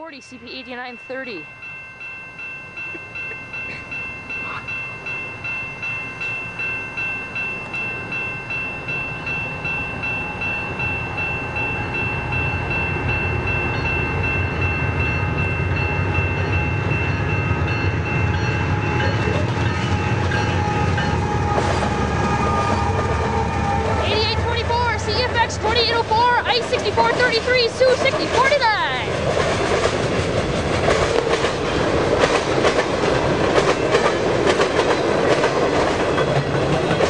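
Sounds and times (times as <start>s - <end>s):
diesel locomotives rumbling: 0.0s - 37.0s
railroad crossing bell ringing: 0.0s - 37.0s.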